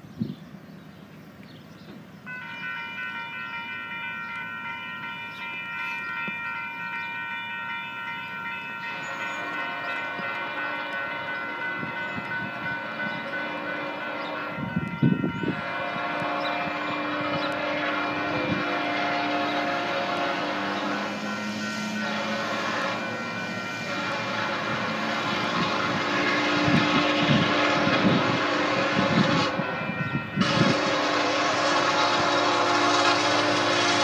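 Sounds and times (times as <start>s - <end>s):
train rumble: 0.0s - 34.0s
crossing warning bell ringing: 2.2s - 34.0s
train horn: 2.3s - 34.0s.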